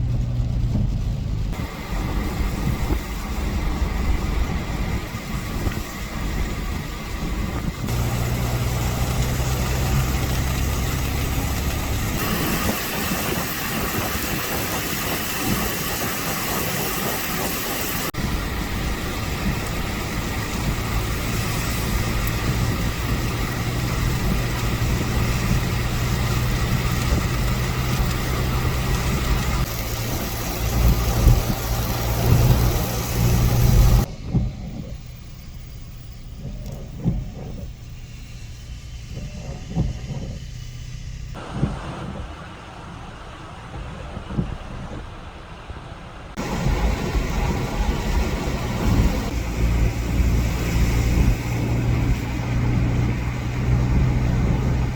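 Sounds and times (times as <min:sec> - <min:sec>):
constant rushing noise: 0:00.0 - 0:54.9
vehicle engine humming: 0:00.0 - 0:54.9.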